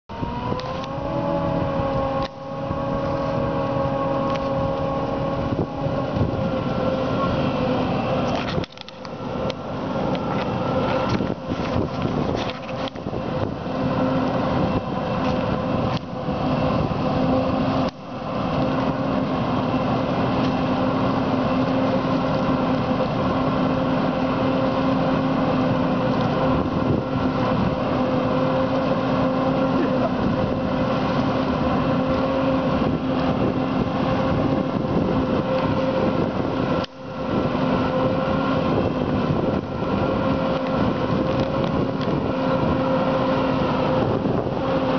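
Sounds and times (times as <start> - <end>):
forage harvester drone: 0.0 - 44.9.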